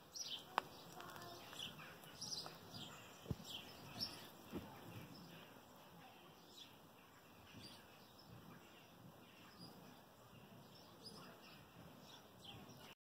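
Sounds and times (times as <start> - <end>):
outdoor background hiss: 0.0 - 13.0
faint bird chirps: 0.1 - 13.0.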